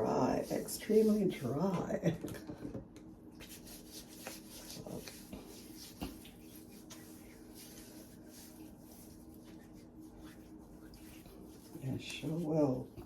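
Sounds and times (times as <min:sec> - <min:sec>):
hands rubbing lotion on skin: 0:00.0 - 0:01.7, 0:03.3 - 0:13.0.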